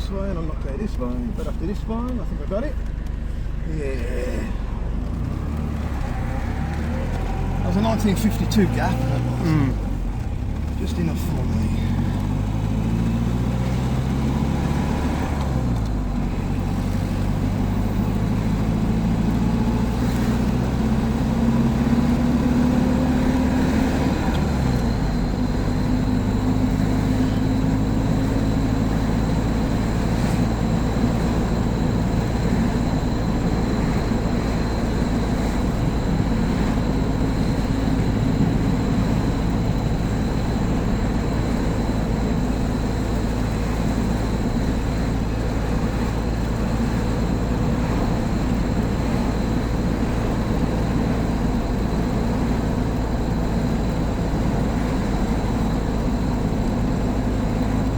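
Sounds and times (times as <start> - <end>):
car engine running: 0.0 - 57.9
road noise: 0.0 - 57.9.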